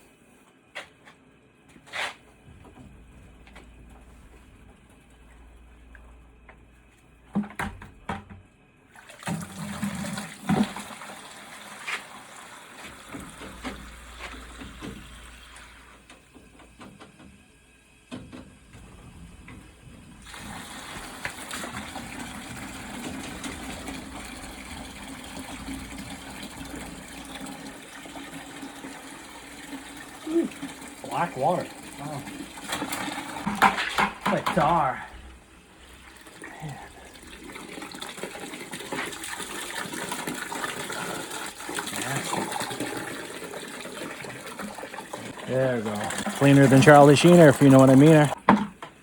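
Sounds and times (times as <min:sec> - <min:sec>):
water rushing into a bucket: 0:08.8 - 0:48.8.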